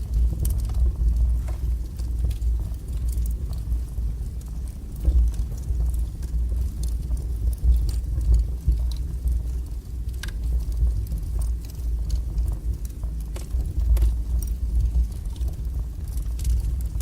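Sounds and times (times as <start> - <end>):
fire crackling and popping: 0.0 - 17.0
rumble of fireplace flames: 0.0 - 17.0.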